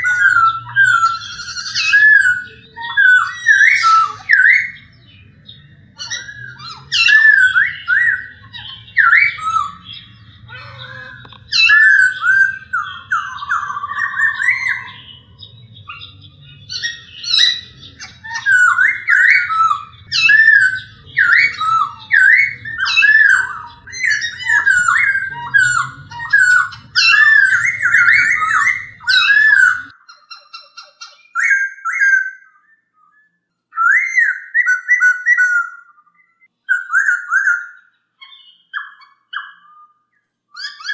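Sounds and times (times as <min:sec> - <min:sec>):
bird singing whistled phrases: 0:00.0 - 0:05.3, 0:05.9 - 0:40.9.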